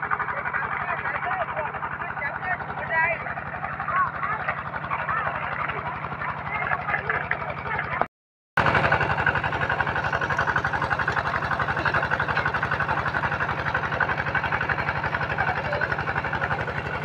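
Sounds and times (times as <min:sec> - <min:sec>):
water pump engine running: 0:00.0 - 0:17.0.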